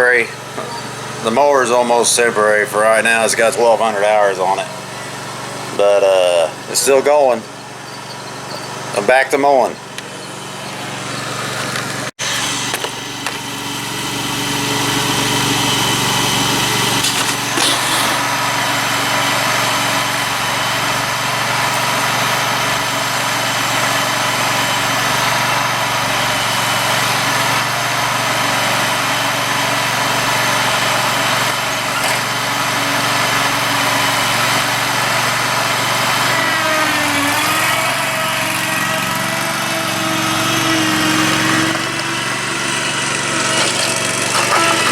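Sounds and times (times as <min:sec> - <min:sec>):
mower engine running: 0:00.0 - 0:44.9.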